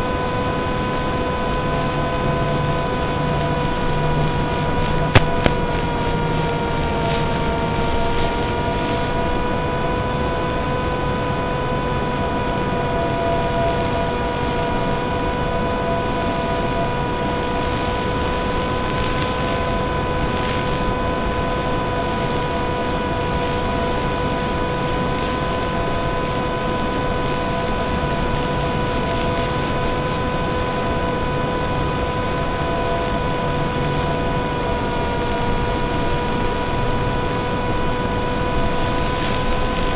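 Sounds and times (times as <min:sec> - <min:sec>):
electrical whine: 0:00.0 - 0:39.9.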